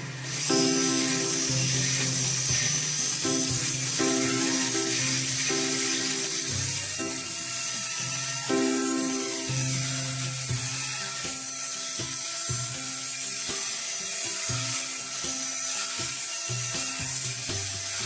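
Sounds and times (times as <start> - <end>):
electric hand mixer whisking batter: 0.0 - 18.0.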